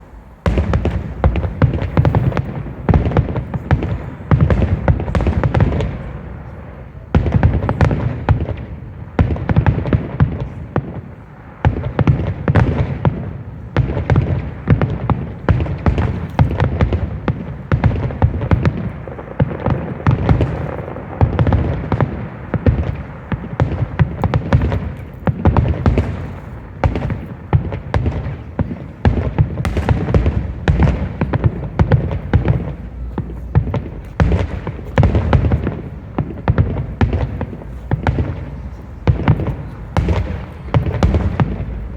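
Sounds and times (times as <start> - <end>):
fireworks booming: 0.0 - 41.9.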